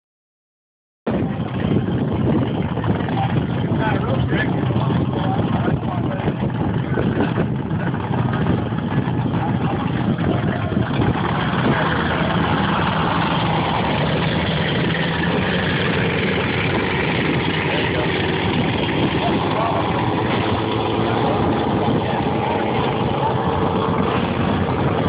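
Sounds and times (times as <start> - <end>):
powerboat engines: 1.1 - 25.0.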